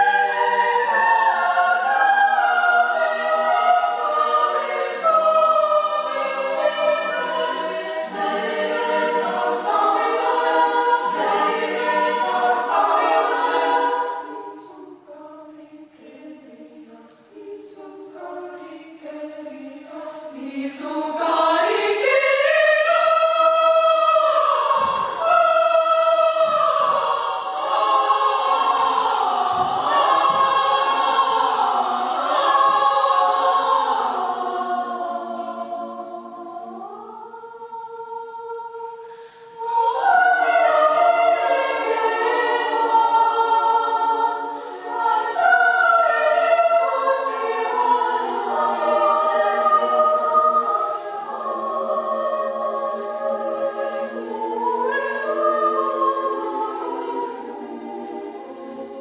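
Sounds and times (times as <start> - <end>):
choir singing unaccompanied: 0.0 - 59.0.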